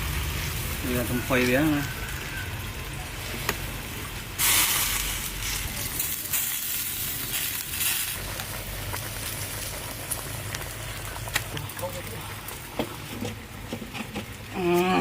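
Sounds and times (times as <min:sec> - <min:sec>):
food sizzling in a hot pan: 0:00.0 - 0:13.2.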